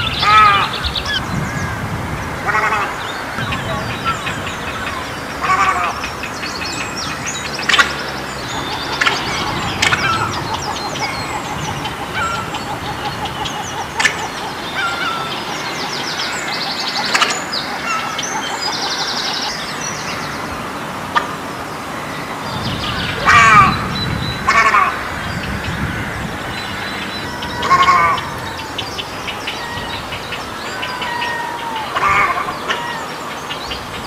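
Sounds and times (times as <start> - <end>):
egrets calling: 0.0 - 34.0.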